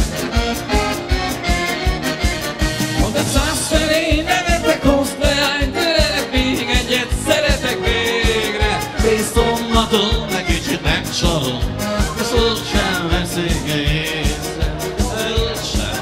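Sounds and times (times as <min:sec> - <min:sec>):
live band playing fast dance music: 0:00.0 - 0:16.0.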